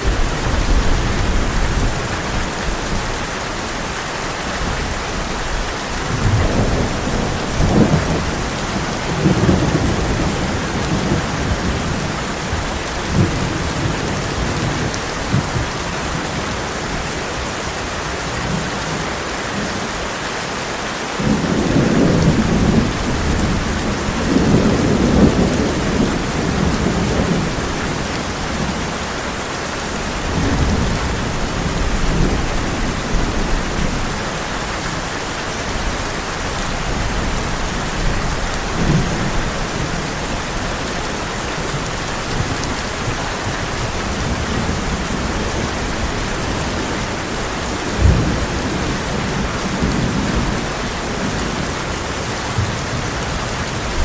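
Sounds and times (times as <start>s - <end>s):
thunder rumbling: 0.0s - 3.9s, 4.5s - 19.0s, 21.2s - 54.0s
heavy rain on a tin roof: 0.0s - 54.0s.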